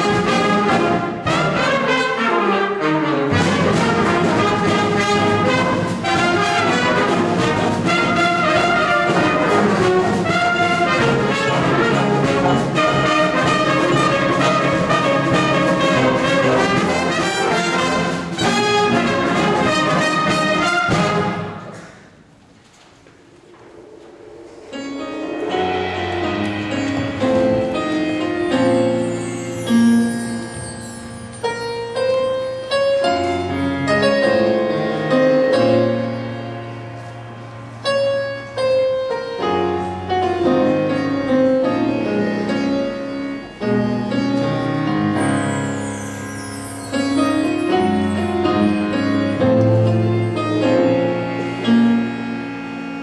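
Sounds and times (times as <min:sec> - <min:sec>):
jazz band playing: 0:00.0 - 0:21.8, 0:23.4 - 0:53.0
piano: 0:00.0 - 0:53.0.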